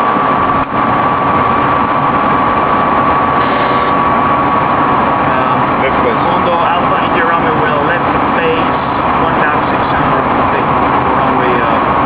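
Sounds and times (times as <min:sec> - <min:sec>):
aircraft engine drone in cabin: 0:00.0 - 0:12.0
high engine whine: 0:00.0 - 0:12.0.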